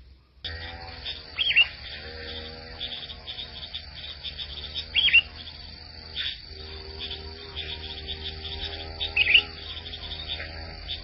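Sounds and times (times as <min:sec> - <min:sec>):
soft low held tones: 0:00.0 - 0:11.0
sharp bird chirps: 0:00.1 - 0:11.0
rapid high ticking: 0:00.5 - 0:11.0.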